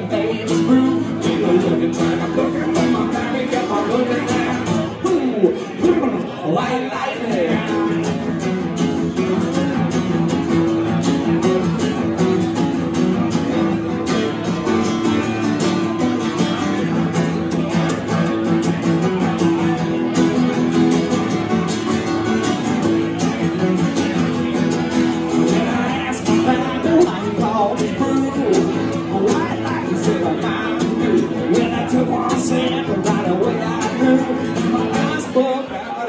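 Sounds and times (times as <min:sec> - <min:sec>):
strummed country guitar: 0:00.0 - 0:36.0.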